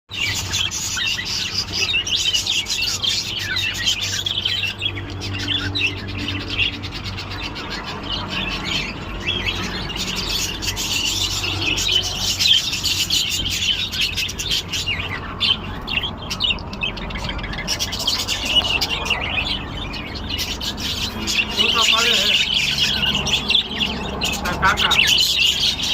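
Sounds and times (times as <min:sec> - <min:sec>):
many birds chirping: 0:00.1 - 0:25.9.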